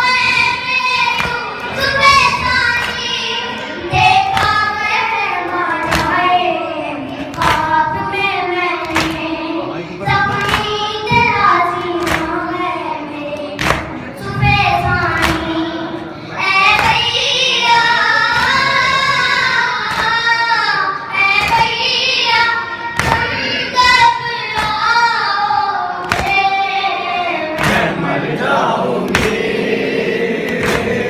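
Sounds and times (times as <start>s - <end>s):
boys chanting into microphones: 0.0s - 31.0s.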